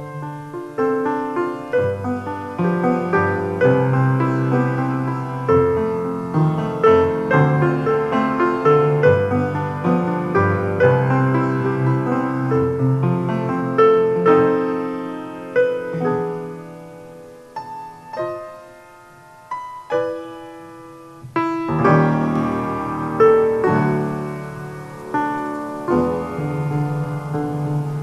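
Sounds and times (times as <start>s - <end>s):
piano chords ringing: 0.0s - 28.0s.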